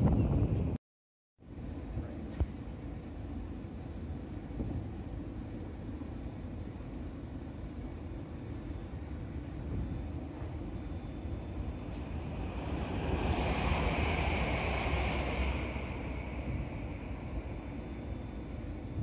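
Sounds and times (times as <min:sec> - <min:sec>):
electric train low rumble: 0:00.0 - 0:00.8, 0:01.4 - 0:19.0.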